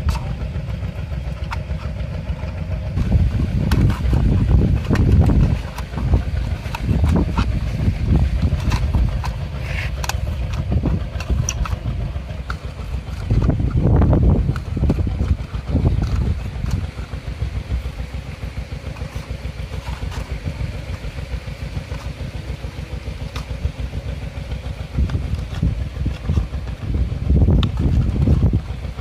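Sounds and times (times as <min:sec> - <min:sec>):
small engine throbbing: 0:00.0 - 0:29.0.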